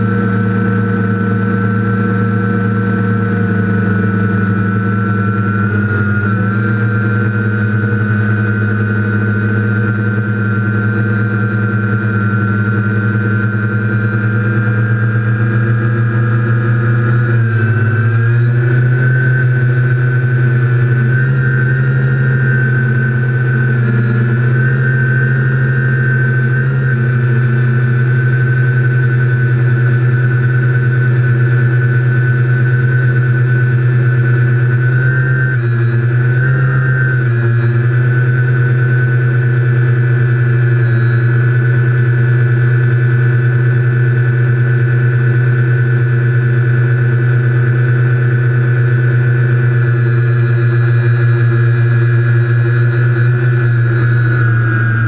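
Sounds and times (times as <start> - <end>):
quadcopter motors droning: 0.0 - 55.0.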